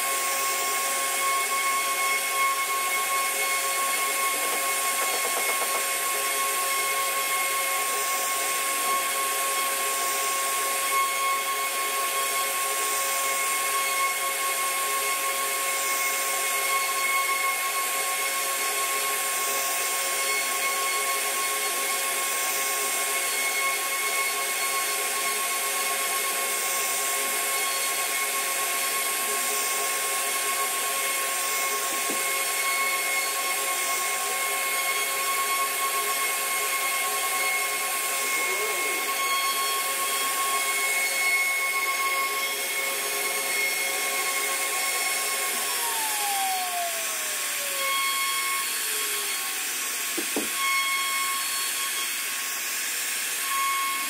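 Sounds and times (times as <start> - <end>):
hiss of wood cutting: 0.0 - 54.0
router spindle whining: 0.0 - 54.0.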